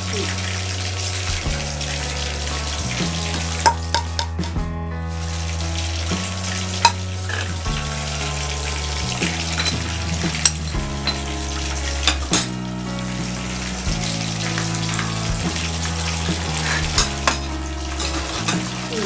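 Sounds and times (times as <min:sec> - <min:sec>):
chicken frying in oil: 0:00.0 - 0:04.6, 0:05.2 - 0:19.0.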